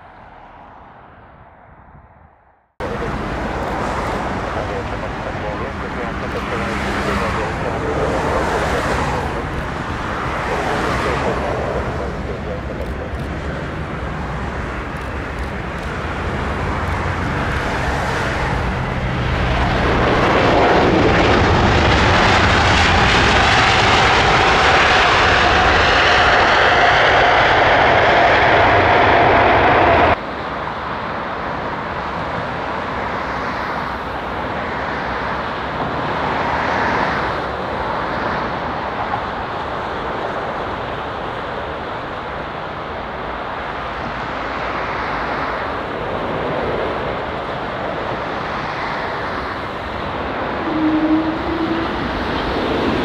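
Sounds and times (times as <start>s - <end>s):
distant jet rumble: 2.8s - 53.0s
jet airliner engines whining: 2.8s - 53.0s.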